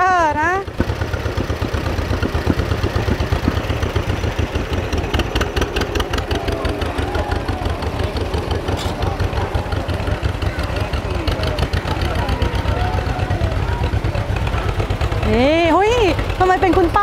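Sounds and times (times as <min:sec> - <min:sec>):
tractor engine low beat: 0:00.0 - 0:17.0.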